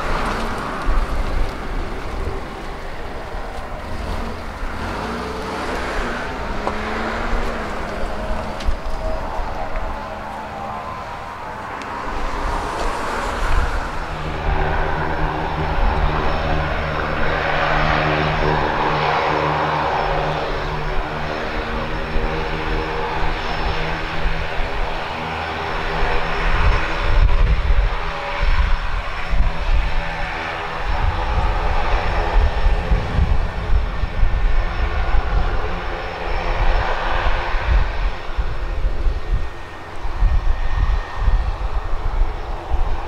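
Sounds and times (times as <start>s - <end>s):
propeller plane engine droning: 0.0s - 43.0s
wind rumble on microphone: 0.0s - 43.0s.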